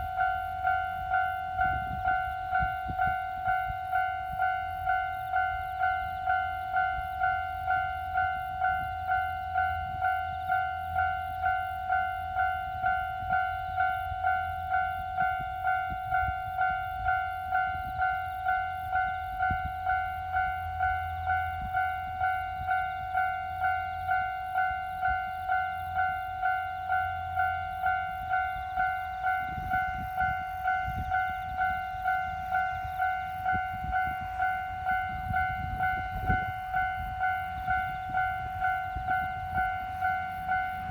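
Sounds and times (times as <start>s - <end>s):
level-crossing warning bell: 0.0s - 40.9s
train rumbling and knocking: 0.0s - 40.9s.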